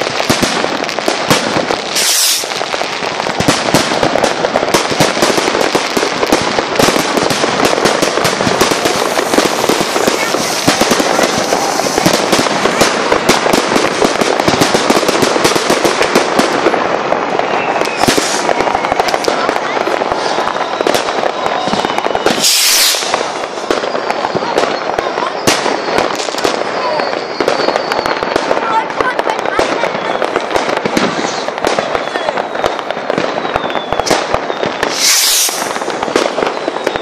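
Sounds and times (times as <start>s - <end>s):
firework hiss: 0.0s - 16.4s, 17.1s - 28.3s, 29.8s - 37.0s
fireworks bangs and pops: 0.0s - 37.0s.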